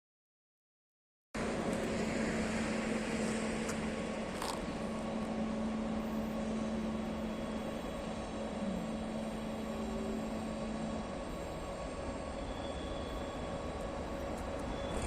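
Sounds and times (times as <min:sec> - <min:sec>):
electric locomotive humming: 0:01.4 - 0:15.0
fan-like running noise: 0:01.4 - 0:15.0.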